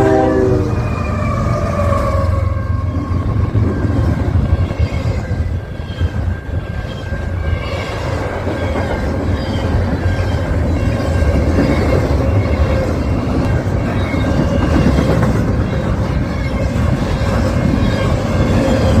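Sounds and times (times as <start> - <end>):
train rumbling past: 0.0 - 19.0
wind buffeting microphone: 0.0 - 19.0.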